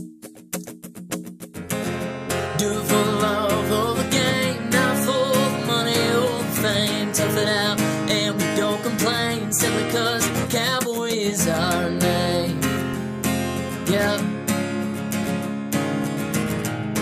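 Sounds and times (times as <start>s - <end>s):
country music with guitar: 0.0s - 17.0s.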